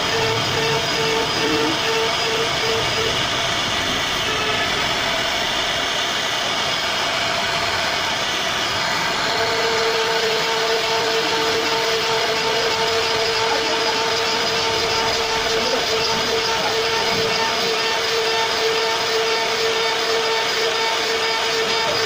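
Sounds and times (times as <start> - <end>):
bit cutting wood: 0.0 - 22.0
router spindle whine: 0.0 - 22.0.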